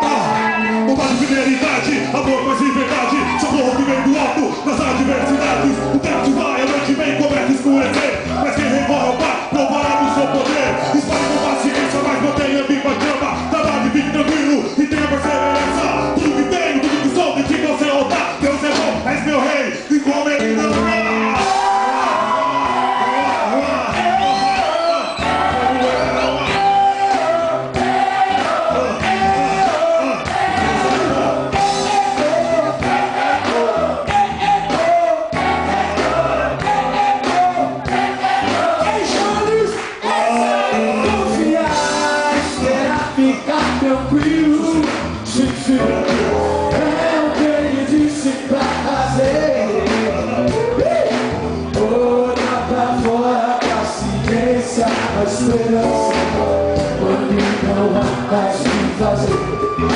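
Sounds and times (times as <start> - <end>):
drum kit: 0.0 - 19.5, 20.4 - 59.9
men singing into microphones: 0.0 - 19.8, 20.4 - 59.9
backing singers: 0.0 - 59.9.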